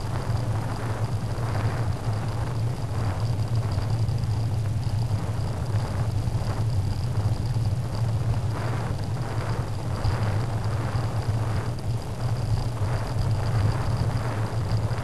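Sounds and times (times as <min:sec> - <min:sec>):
faint high whine: 0:00.0 - 0:15.0
wind and tyre rumble: 0:00.0 - 0:15.0.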